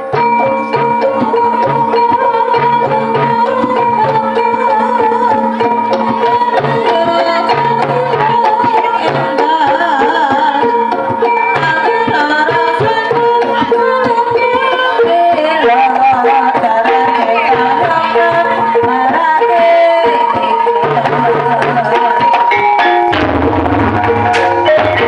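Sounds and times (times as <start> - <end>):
hand drums beating: 0.0 - 25.0
traditional music over sound system: 0.0 - 25.0.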